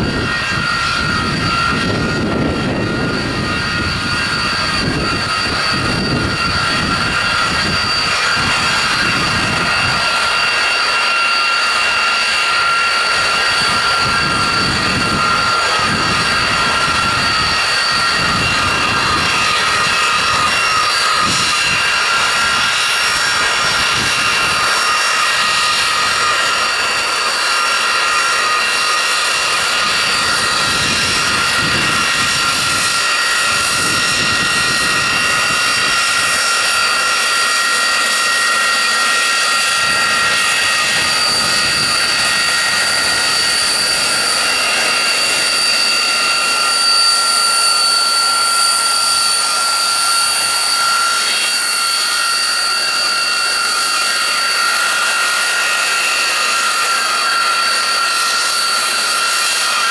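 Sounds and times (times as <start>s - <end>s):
jet engine whining: 0.0s - 59.9s.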